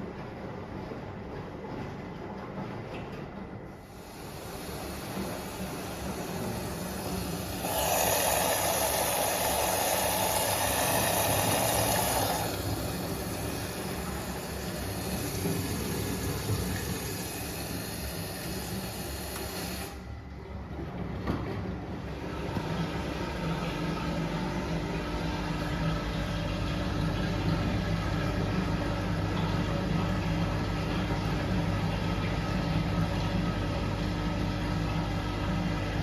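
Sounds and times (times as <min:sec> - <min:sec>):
washing machine running: 0:00.0 - 0:36.0.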